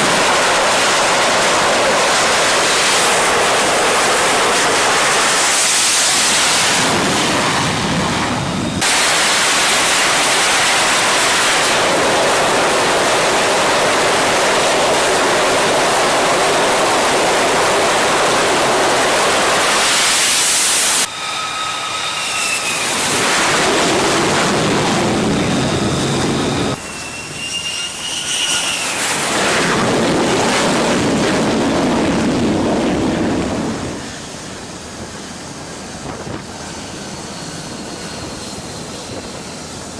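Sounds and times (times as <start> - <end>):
high turbine whine: 0.0 - 39.9
jet engine roar: 0.0 - 39.9.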